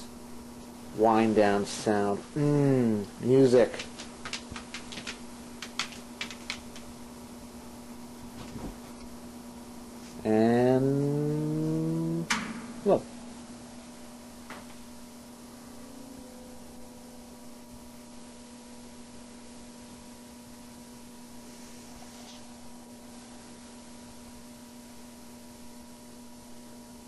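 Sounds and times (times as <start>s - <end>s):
electric fan motor humming: 0.0s - 27.0s.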